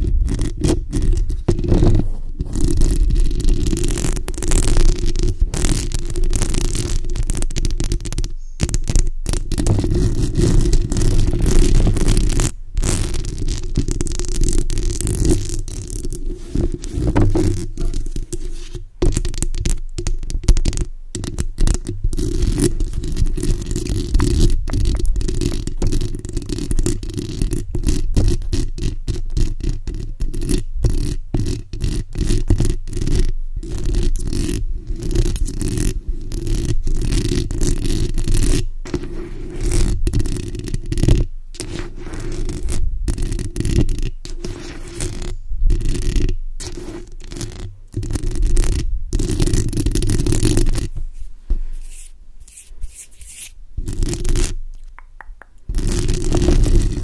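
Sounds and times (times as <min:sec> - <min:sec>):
fingernails scratching microphone grille: 0:00.0 - 0:18.9, 0:21.3 - 0:54.6, 0:55.7 - 0:57.0.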